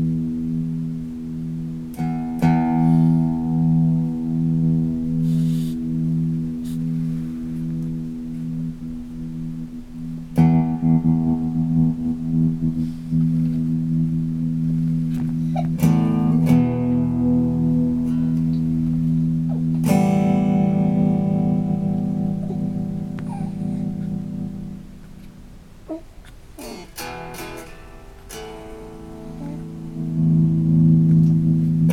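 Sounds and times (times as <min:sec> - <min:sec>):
electric guitar with glitchy tremolo: 0:00.0 - 0:31.9.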